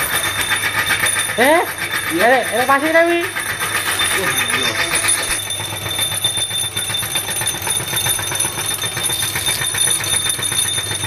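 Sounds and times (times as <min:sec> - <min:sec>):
meat grinder whining and rattling: 0:00.0 - 0:11.0.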